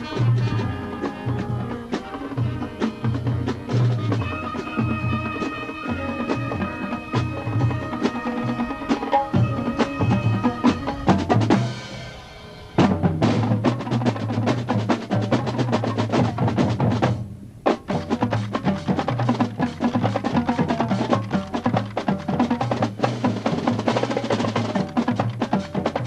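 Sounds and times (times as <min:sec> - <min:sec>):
marching band music: 0:00.0 - 0:26.0
snare and bass drums: 0:00.0 - 0:26.0.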